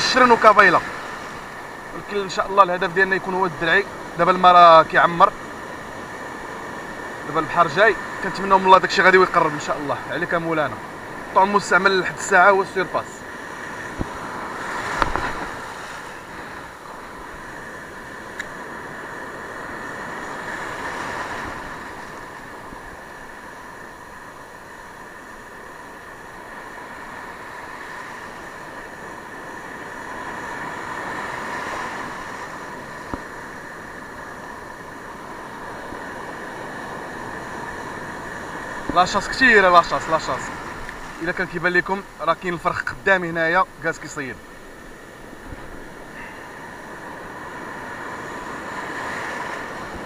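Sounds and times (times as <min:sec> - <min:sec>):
waves breaking on rocks: 0:00.0 - 0:50.0.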